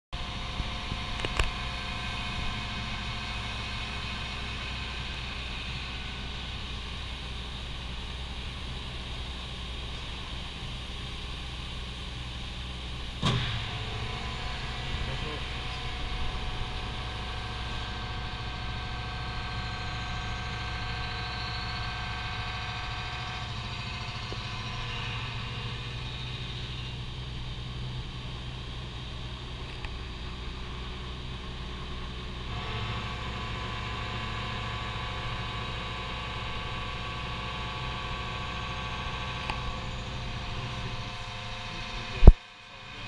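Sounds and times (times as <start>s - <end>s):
machine whine: 0.2s - 43.0s
milling machine low hum: 0.2s - 43.0s.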